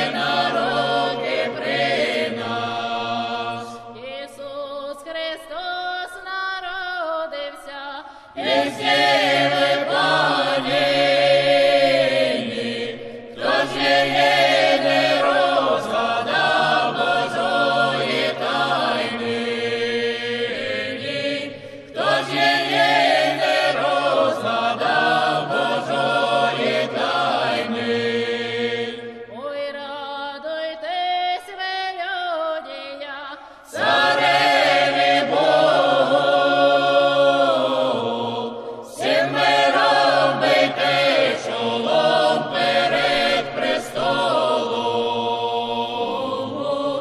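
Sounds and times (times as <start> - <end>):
group of singers chanting: 0.0 - 4.1, 8.3 - 29.8, 33.4 - 47.0.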